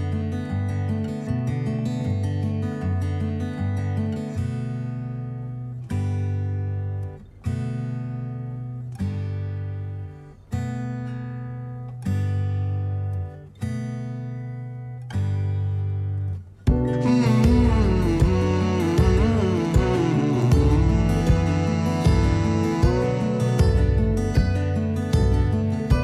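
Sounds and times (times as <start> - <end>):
acoustic guitar chords strummed: 0.0 - 26.0.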